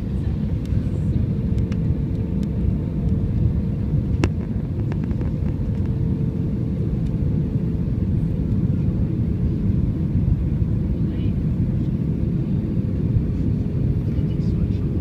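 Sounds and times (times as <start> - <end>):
plane engine and airflow rumble: 0.0 - 15.0.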